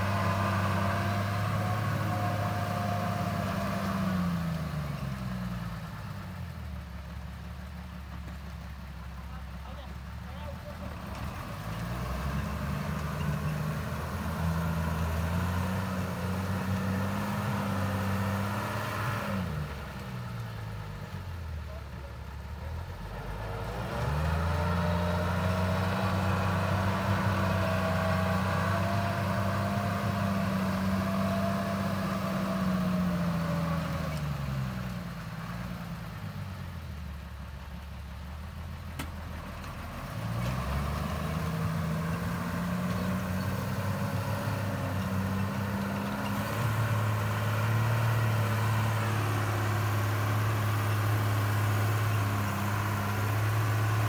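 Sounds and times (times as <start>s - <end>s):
truck diesel engine revving: 0.0s - 6.8s, 7.8s - 37.4s, 38.0s - 54.0s.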